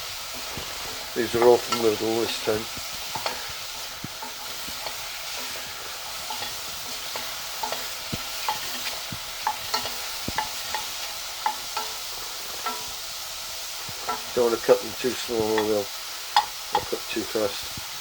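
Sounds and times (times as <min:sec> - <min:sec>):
food sizzling in frying pan: 0:00.0 - 0:18.0
kitchen utensils tapping: 0:00.4 - 0:13.0, 0:13.8 - 0:17.4.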